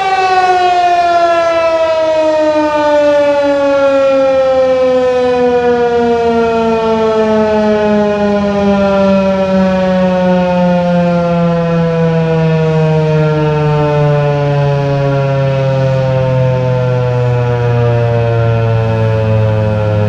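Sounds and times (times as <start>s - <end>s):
tornado siren sliding down in pitch: 0.0s - 20.0s.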